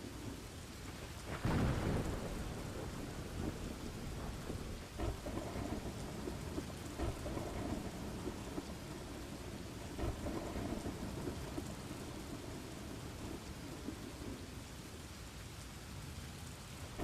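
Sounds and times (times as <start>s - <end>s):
heavy rain: 0.0s - 17.0s
rolling thunder: 0.9s - 14.6s.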